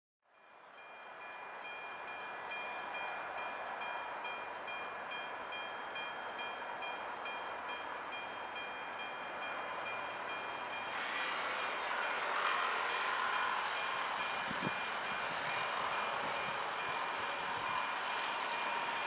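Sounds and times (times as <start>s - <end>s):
approaching train rumble: 0.3s - 19.0s.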